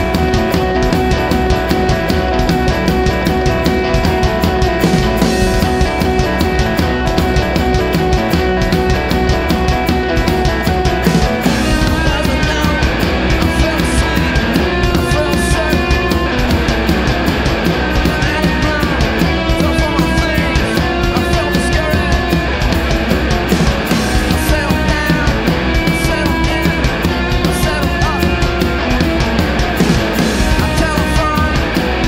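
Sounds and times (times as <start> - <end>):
rock music with steady beat: 0.0 - 32.0.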